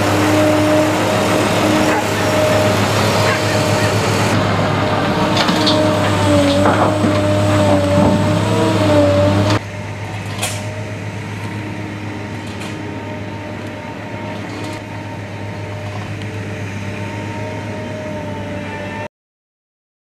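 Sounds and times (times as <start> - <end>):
excavator engine and hydraulics whining: 0.0 - 19.1.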